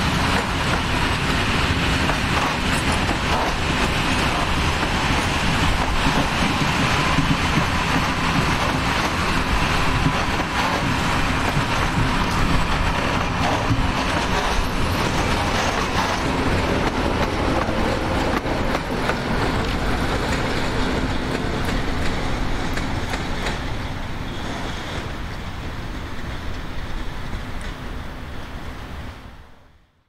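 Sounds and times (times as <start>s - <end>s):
diesel freight train passing: 0.0s - 29.8s.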